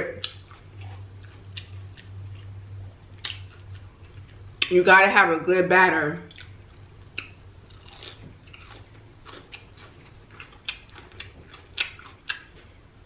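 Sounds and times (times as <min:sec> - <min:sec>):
chewing crunchy fried food: 0:00.2 - 0:04.7, 0:06.2 - 0:12.8.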